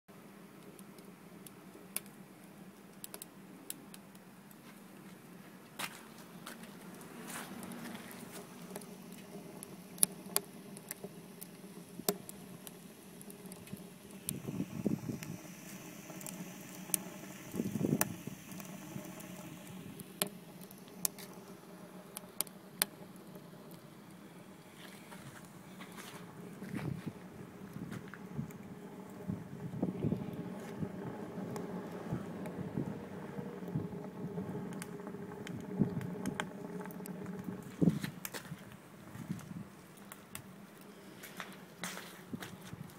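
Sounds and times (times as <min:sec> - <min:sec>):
low steady hum: 0:00.1 - 0:42.9
wood fire crackling: 0:00.1 - 0:42.9.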